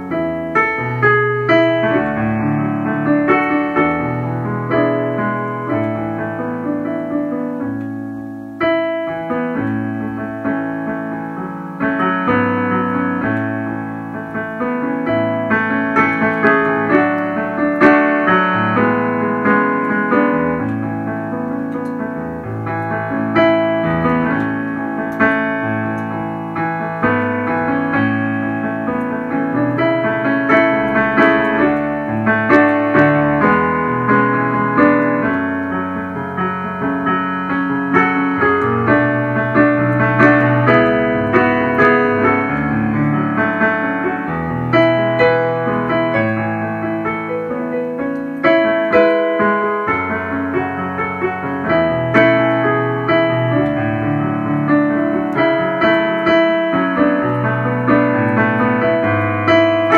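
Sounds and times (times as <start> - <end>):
piano playing a slow hymn: 0.0 - 59.9.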